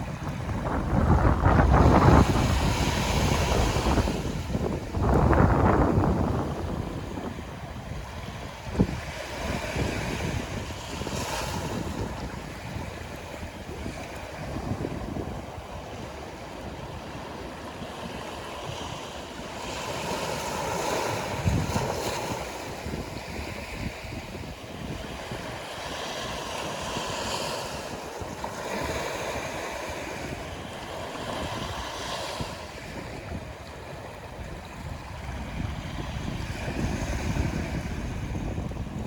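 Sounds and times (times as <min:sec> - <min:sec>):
waves breaking on rocky shore: 0:00.0 - 0:39.0
wind buffeting microphone: 0:00.0 - 0:39.0.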